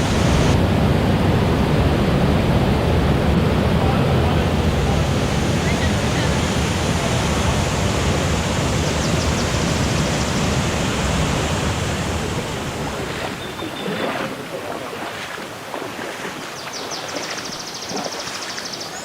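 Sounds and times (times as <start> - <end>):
rushing water roar: 0.0 - 19.0.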